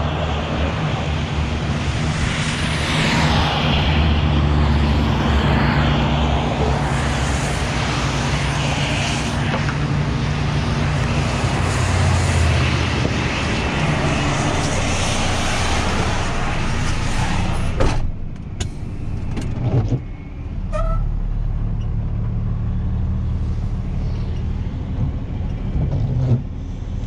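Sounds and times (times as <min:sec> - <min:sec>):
low engine drone: 0:00.0 - 0:27.0.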